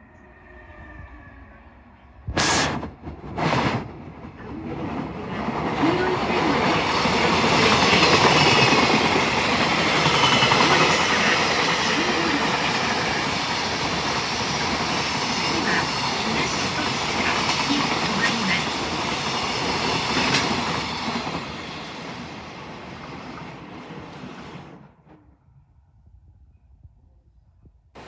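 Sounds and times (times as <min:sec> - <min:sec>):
train wheels rumbling and clattering: 0:02.3 - 0:25.2.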